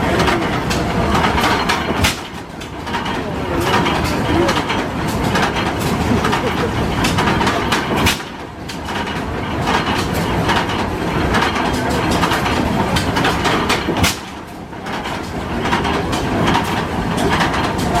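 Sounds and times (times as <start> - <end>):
tractor engine exhaust beats: 0.0 - 18.0.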